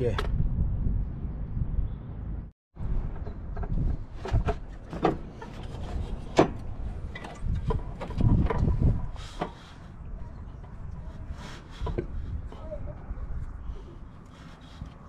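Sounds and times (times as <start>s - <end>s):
low rumbling: 0.3s - 15.0s.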